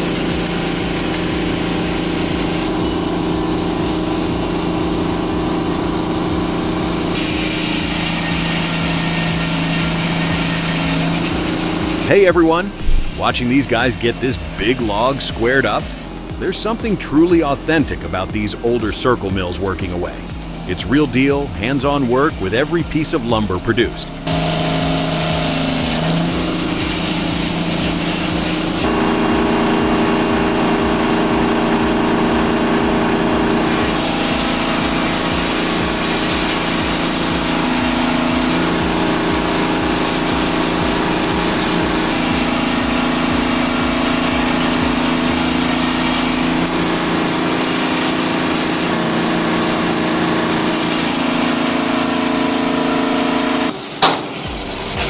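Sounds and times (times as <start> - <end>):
engine powering sawmill: 0.0 - 55.0.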